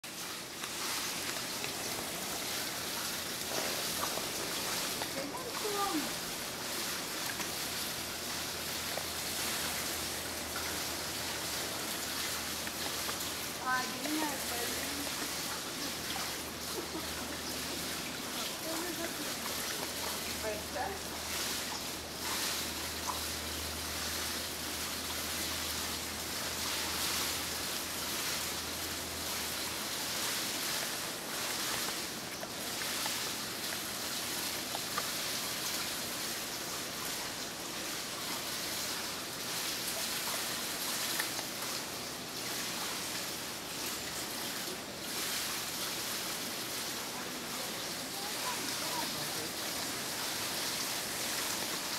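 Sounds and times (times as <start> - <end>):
outdoor background hiss: 0.0 - 51.9.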